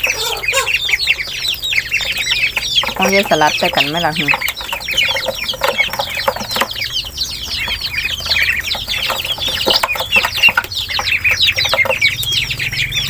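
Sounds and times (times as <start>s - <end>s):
ducklings and chicks peeping: 0.0s - 13.0s.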